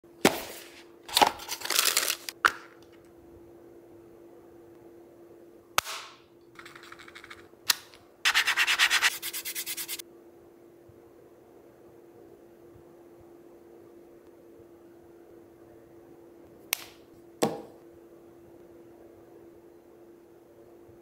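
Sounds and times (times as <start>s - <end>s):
faint steady hum: 0.1s - 21.0s.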